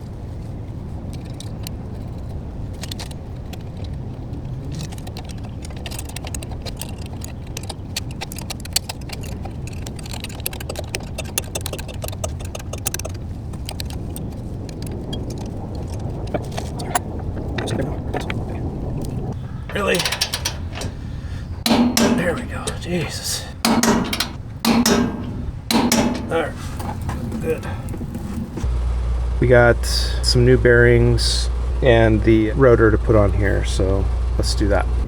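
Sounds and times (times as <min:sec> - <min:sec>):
steady low hum: 0:00.0 - 0:35.0
hand tools clinking: 0:04.5 - 0:17.0, 0:19.4 - 0:35.0.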